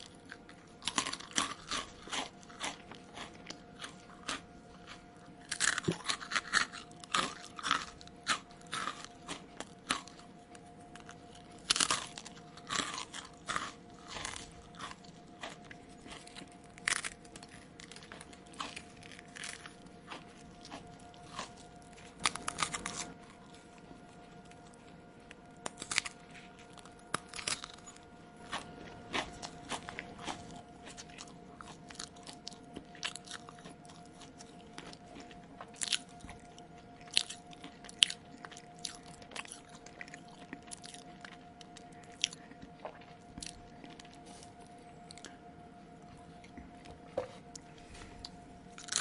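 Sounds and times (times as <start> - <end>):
chewing crunchy food: 0.0 - 49.0
faint steady tone: 2.8 - 49.0.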